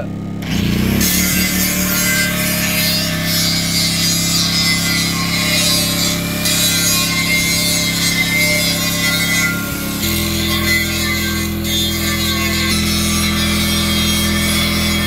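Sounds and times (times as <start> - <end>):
angle grinder grinding steel: 0.0 - 15.0
grinder motor hum: 0.0 - 15.0.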